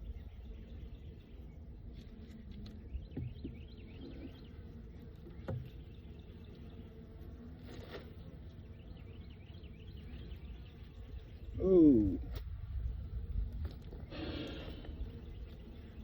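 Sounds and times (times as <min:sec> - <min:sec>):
birds chirping: 0:00.0 - 0:12.4, 0:13.9 - 0:16.0
honeybees humming: 0:00.0 - 0:16.0.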